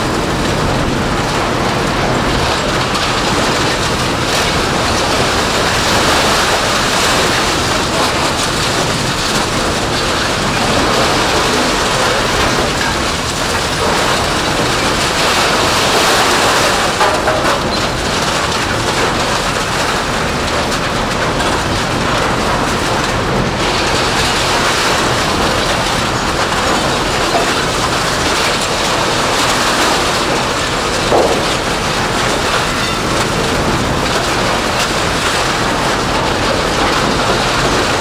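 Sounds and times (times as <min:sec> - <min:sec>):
scrap metal clattering and grinding: 0:00.0 - 0:38.0.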